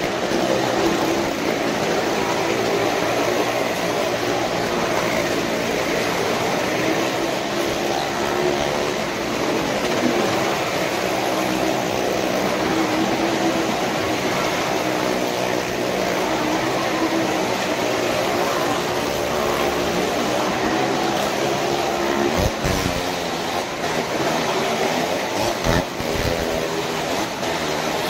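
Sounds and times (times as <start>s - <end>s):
car and motorcycle engines droning: 0.0s - 28.0s.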